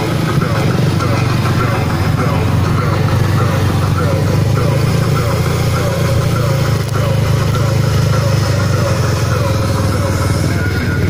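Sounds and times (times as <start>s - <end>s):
crowd murmuring: 0.0s - 11.0s
motorcycle engine running: 0.0s - 11.0s.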